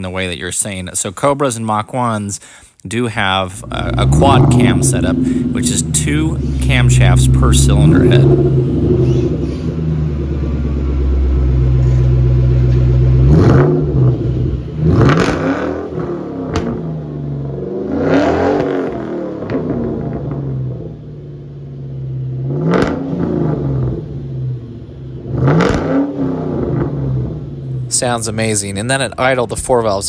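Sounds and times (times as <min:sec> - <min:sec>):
car engine idling and revving: 0:03.5 - 0:29.7.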